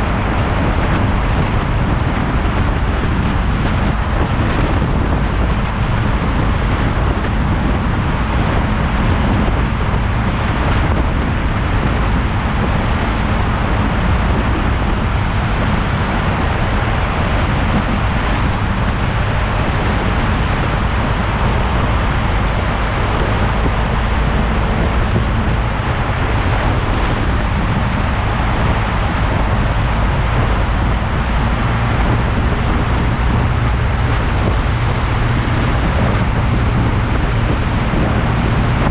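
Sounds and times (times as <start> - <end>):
motorcycle engine hum: 0.0 - 38.9
wind and road noise: 0.0 - 38.9.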